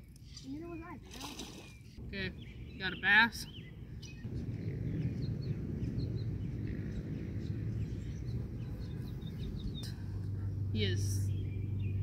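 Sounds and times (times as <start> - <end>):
low outdoor rumble: 2.0 - 12.0.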